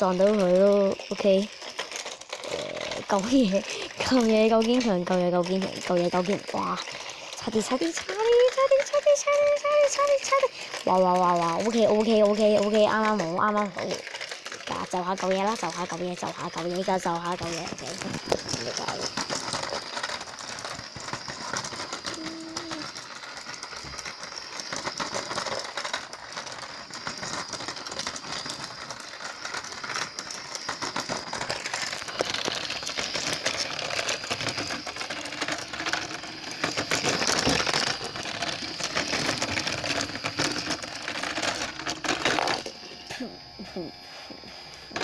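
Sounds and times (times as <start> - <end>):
toy train motor whining: 0.0 - 45.0
wheels and gears clicking: 0.0 - 45.0.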